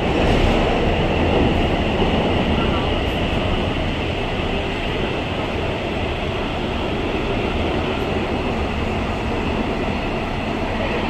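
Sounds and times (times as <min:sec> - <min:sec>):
subway train wheels rumbling: 0:00.0 - 0:11.0.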